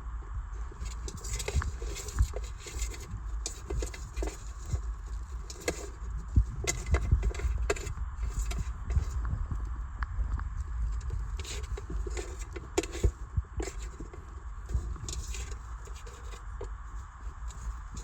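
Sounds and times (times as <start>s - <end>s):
beaver gnawing on wood: 0.8s - 9.4s, 10.6s - 18.0s.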